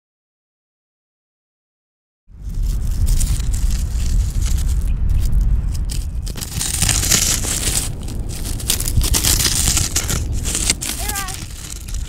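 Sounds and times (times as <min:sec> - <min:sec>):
deep steady rumble: 0:02.3 - 0:12.0
rustling crackling hiss: 0:02.3 - 0:12.0
wind blowing hard: 0:02.3 - 0:12.0.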